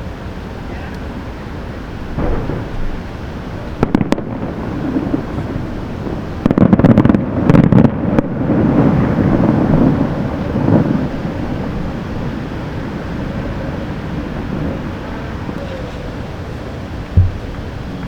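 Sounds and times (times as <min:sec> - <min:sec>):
distant fireworks bursting: 0:02.1 - 0:18.0.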